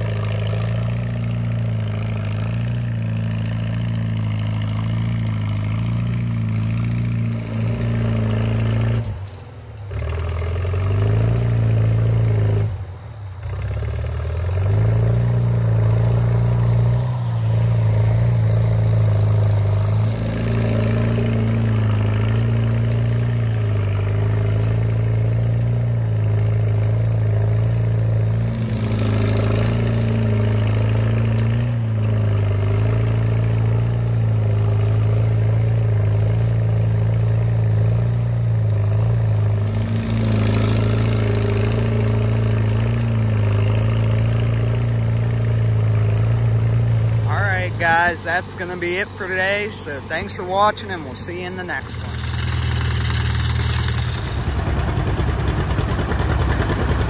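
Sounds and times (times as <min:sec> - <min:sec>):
tractor engine running under load: 0:00.0 - 0:57.0.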